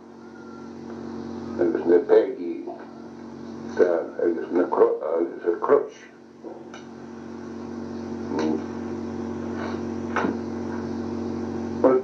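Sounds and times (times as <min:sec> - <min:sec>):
steady multi-tone hum: 0:00.0 - 0:12.0.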